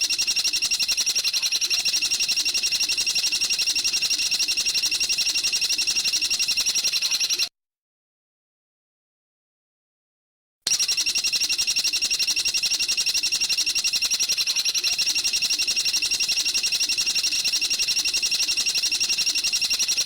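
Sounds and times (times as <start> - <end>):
bird rattling trill: 0.0 - 7.5, 10.7 - 20.0.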